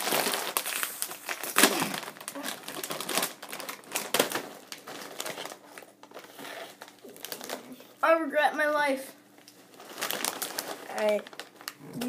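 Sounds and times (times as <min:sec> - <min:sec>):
plastic snack bag crinkling: 0:00.0 - 0:07.9, 0:09.3 - 0:12.0.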